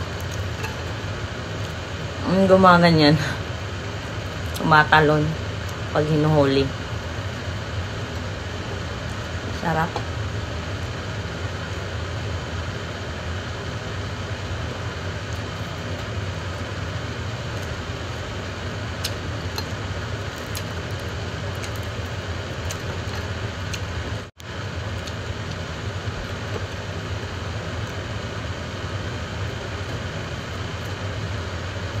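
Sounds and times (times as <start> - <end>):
household appliance whirring hum: 0.0 - 32.0.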